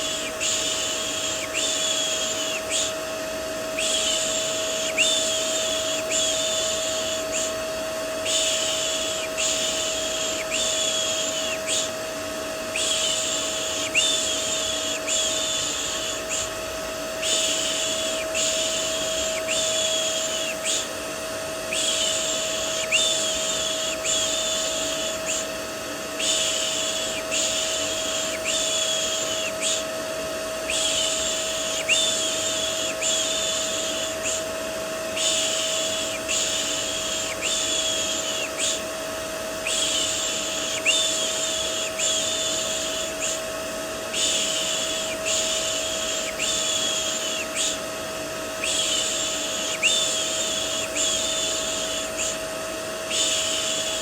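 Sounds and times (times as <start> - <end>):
vacuum cleaner humming: 0.0 - 54.0.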